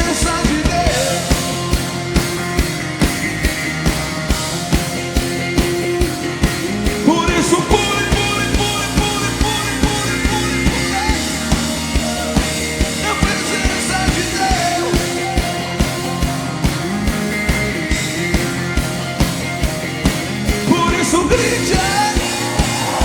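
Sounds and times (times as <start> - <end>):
band playing rock song: 0.0 - 23.0
driving drum beat: 0.0 - 23.0.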